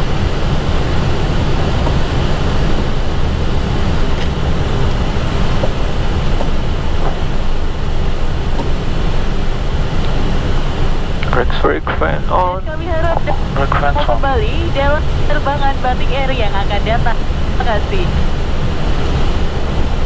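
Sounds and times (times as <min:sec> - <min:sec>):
aircraft engine rumble: 0:00.0 - 0:20.0.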